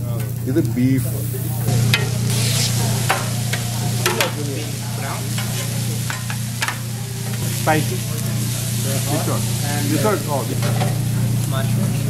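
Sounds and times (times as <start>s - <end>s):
steady low hum: 0.0s - 12.0s
steaks sizzling on griddle: 0.0s - 12.0s.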